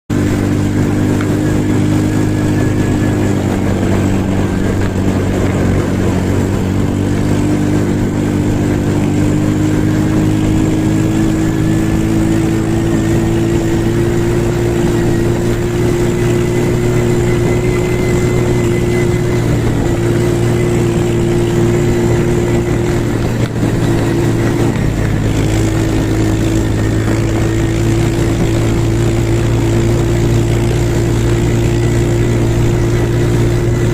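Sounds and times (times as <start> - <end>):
road drone: 0.1 - 33.9
vehicle engine running: 0.1 - 33.9.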